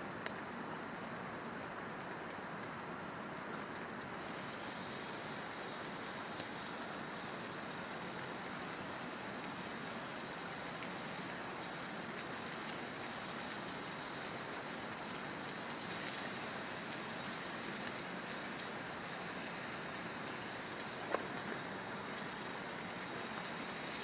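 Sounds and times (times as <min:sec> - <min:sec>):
steady rushing outdoor noise: 0:03.9 - 0:24.0
burning wood popping: 0:04.2 - 0:24.0.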